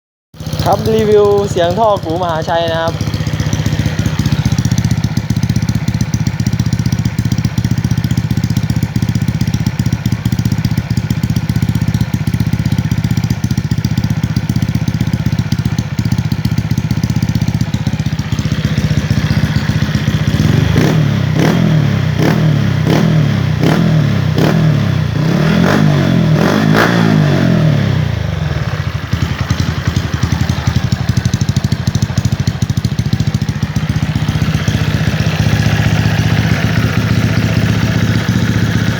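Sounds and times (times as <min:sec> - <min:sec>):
motorcycle idling: 0:00.4 - 0:38.9
motorcycle throttle blips: 0:00.4 - 0:38.9.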